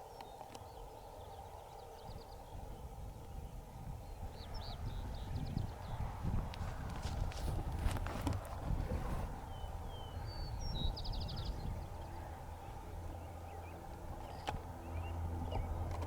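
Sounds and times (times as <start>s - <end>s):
songbird chirping and trilling: 0.0s - 7.1s, 9.4s - 16.0s
wind rumble on microphone: 0.0s - 16.0s.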